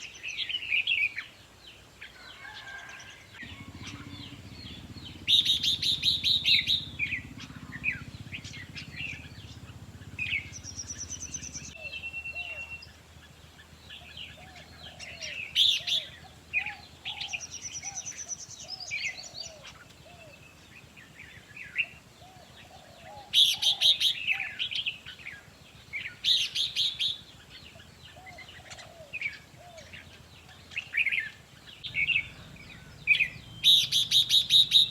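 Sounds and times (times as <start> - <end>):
bulbuls chirping and whistling: 3.4 - 34.9.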